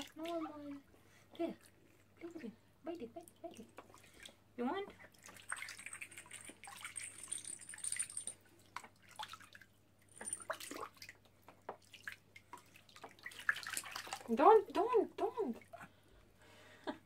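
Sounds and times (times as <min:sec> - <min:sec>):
bath water splashing and dripping: 0:00.0 - 0:02.5, 0:03.2 - 0:16.0.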